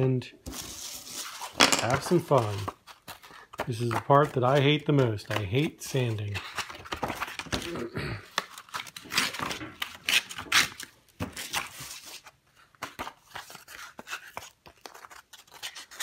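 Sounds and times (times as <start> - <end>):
paper rustling and crinkling: 0.5 - 7.7, 8.3 - 16.0.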